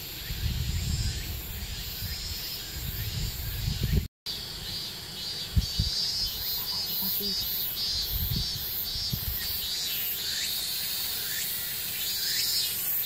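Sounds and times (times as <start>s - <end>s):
high pulsing insect trill: 0.0s - 13.0s
insects chirring: 0.0s - 13.0s.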